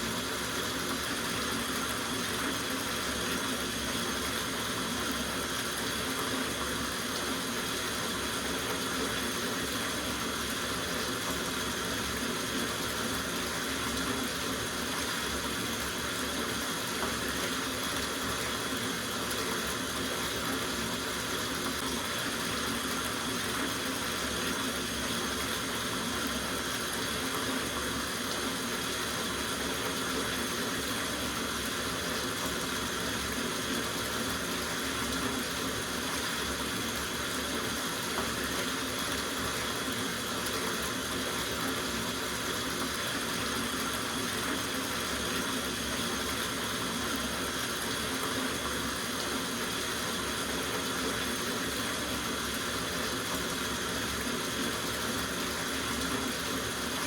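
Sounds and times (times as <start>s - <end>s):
tap water running into bathtub: 0.0s - 57.0s.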